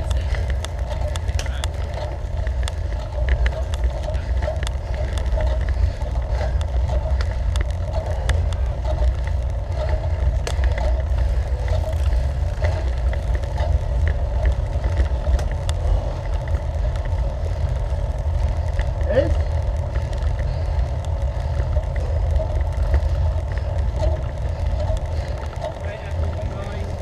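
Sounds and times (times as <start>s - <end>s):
bicycle clicks and rattles: 0.0s - 27.0s
road noise: 0.0s - 27.0s
wind on microphone: 0.0s - 27.0s.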